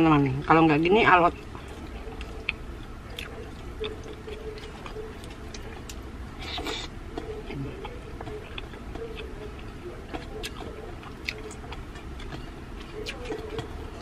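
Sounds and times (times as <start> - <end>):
chewing and lip smacking: 1.4 - 14.0.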